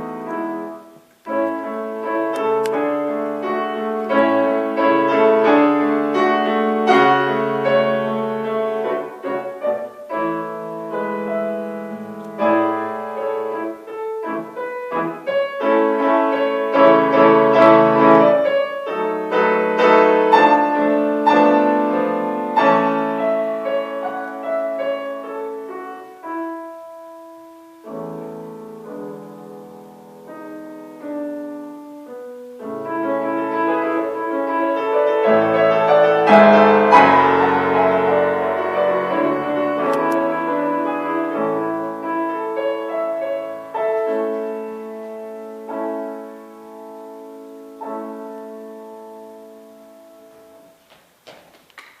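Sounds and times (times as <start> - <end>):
slow piano piece: 0.0 - 52.0.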